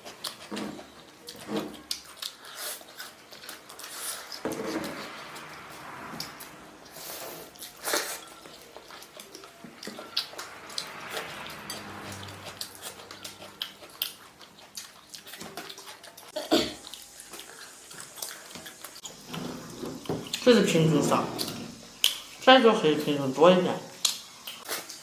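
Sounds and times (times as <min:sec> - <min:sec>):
chewing: 0:00.0 - 0:05.6, 0:06.2 - 0:20.5, 0:21.4 - 0:22.4, 0:24.0 - 0:25.0.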